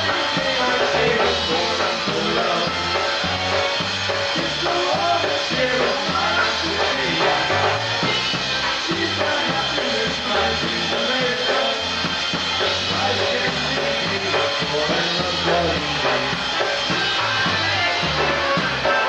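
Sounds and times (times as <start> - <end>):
drum kit beat: 0.0 - 19.0
polka band playing: 0.0 - 19.0.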